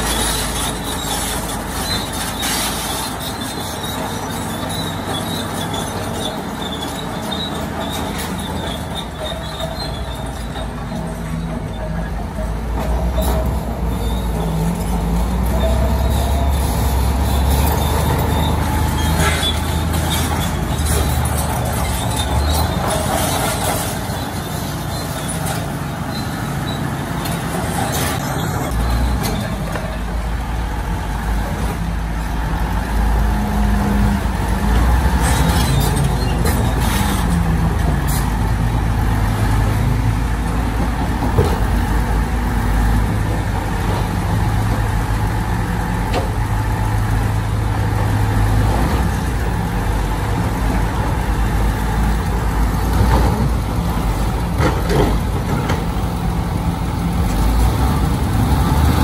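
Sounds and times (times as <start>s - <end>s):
diesel engine rumbling under load: 0.0s - 59.0s.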